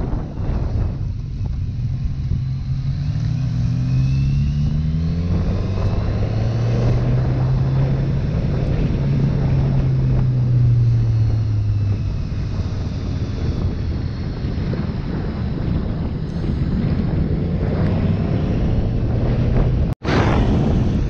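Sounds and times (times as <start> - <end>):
motorcycle engine under throttle: 0.0 - 21.0
wind rushing over microphone: 0.0 - 21.0.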